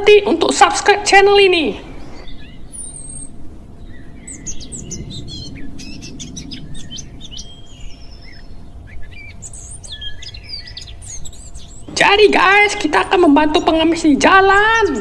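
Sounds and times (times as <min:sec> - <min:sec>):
birds chirping: 0:00.0 - 0:15.0
low background hiss: 0:00.0 - 0:15.0.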